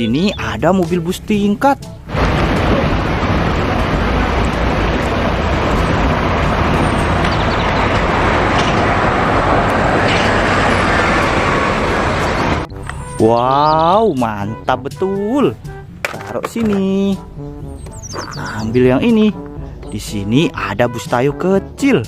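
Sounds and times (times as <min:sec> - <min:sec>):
bus engine and road rumble: 0:00.0 - 0:14.8, 0:15.5 - 0:20.2.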